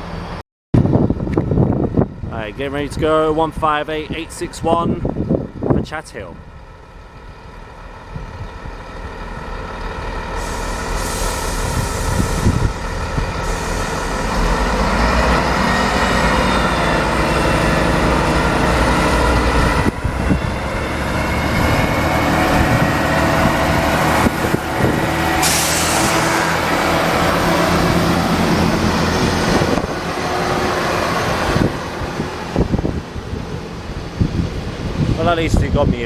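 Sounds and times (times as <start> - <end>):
train diesel engines under power: 0.0 - 36.0.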